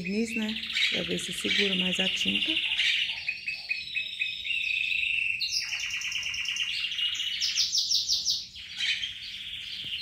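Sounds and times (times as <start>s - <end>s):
songbird trilling: 0.0s - 10.0s.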